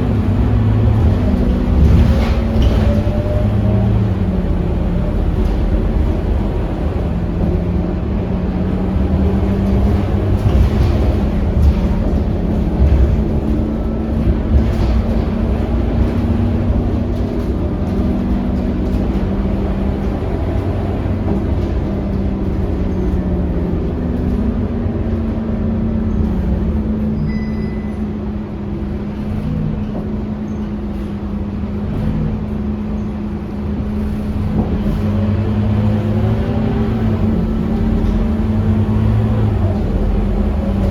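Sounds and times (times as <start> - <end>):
bus diesel engine rumbling: 0.0 - 40.9.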